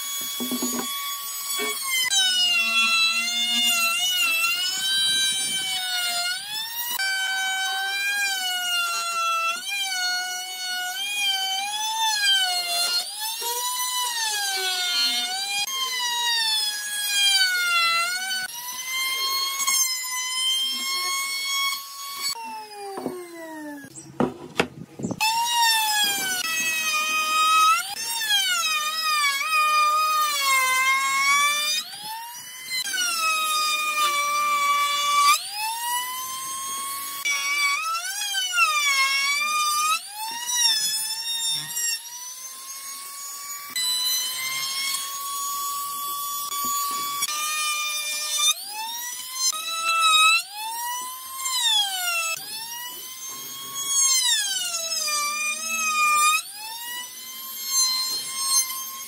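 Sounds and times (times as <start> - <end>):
router whining cutting wood: 0.0 - 59.0.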